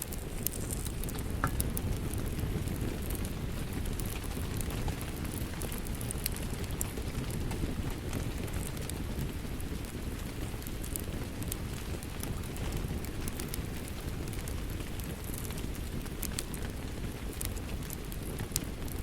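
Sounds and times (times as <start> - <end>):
fireplace fire crackling: 0.0 - 19.0
steady rain: 0.0 - 19.0.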